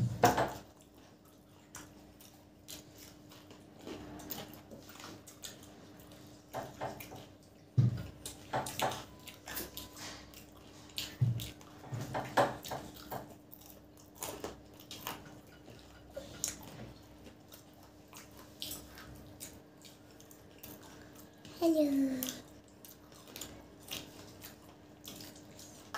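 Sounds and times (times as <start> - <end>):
wet squishy chewing: 0.5 - 25.9.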